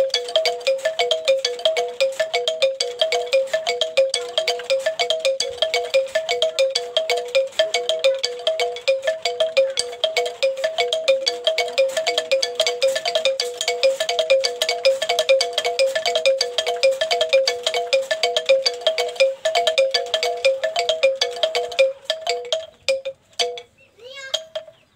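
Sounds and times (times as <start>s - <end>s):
strikers clacking bamboo keys: 0.0s - 23.7s.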